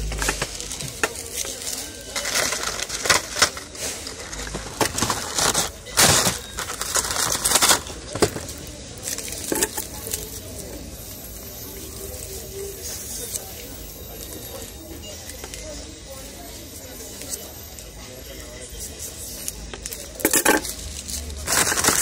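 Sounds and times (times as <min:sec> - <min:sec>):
plastic packaging crinkling: 0:00.0 - 0:15.8, 0:16.5 - 0:22.0.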